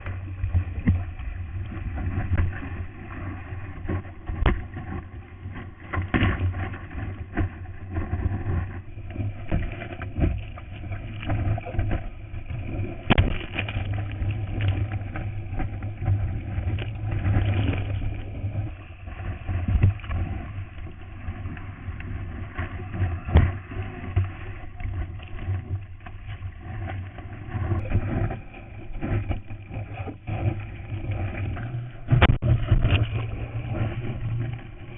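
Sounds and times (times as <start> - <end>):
knocks and splashes: 0.0 - 8.7, 9.4 - 18.2, 22.0 - 34.6
wind and rushing water rumble: 0.0 - 34.9.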